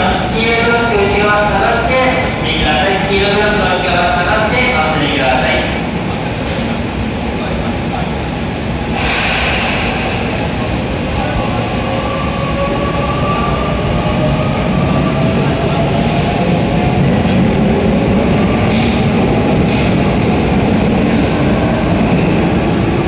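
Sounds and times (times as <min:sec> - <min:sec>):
train cars rumbling past: 0:00.0 - 0:23.0.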